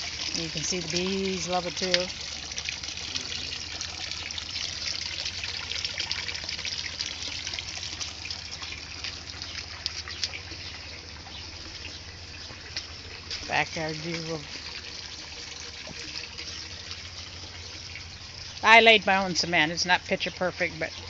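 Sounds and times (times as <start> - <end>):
pond water trickling and splashing: 0.0 - 21.0.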